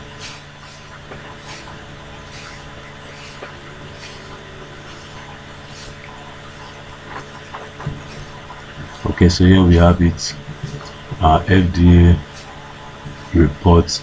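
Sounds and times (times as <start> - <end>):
soft hissing puffs: 0.0 - 13.7
microphone hum and hiss: 0.0 - 14.0.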